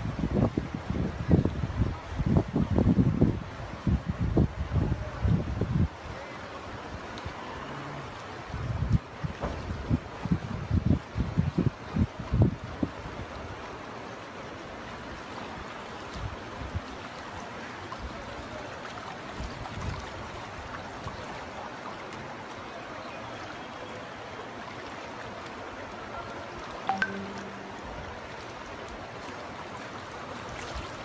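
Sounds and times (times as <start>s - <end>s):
floodwater rushing: 6.0s - 31.0s.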